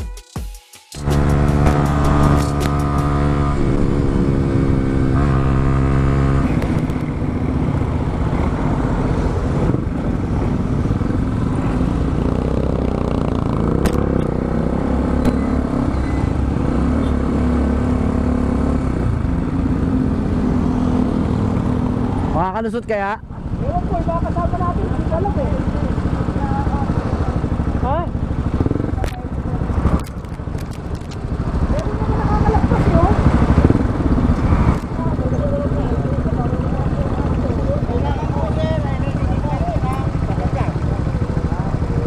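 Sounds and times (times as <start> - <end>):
motorcycle engine running: 1.0 - 42.0
wind and road noise: 1.0 - 42.0.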